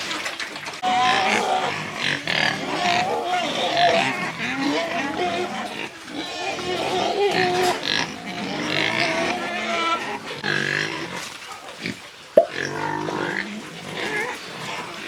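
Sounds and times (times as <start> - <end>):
piglets grunting and oinking: 0.8 - 15.0.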